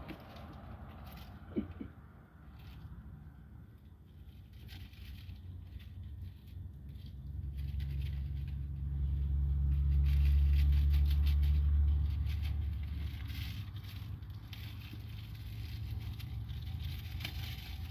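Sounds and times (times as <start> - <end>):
car engine hum passing: 0.0 - 17.9.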